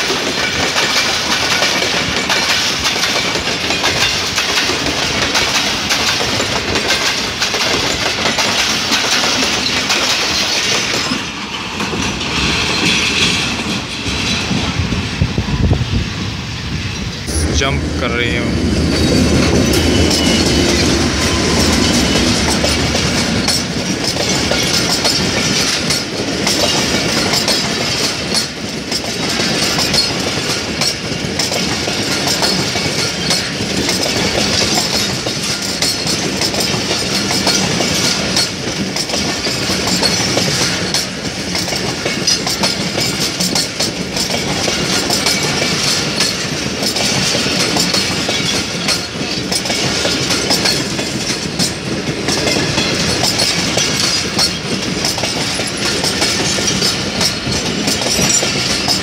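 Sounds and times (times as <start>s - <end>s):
wheels clickety-clack: 0.0s - 15.8s, 18.9s - 59.0s
passenger train passing: 0.0s - 59.0s.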